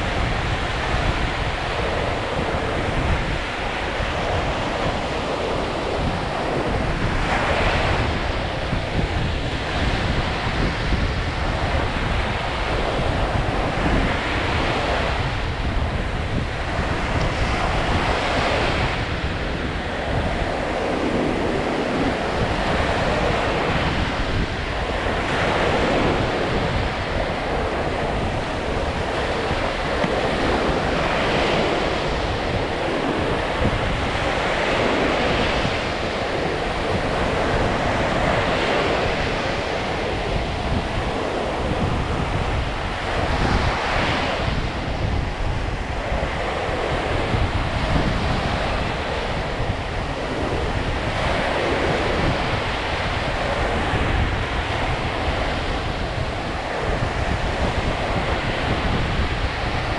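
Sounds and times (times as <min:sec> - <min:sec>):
waves breaking on shore: 0:00.0 - 0:59.9
wind rumble on microphone: 0:00.0 - 0:59.9.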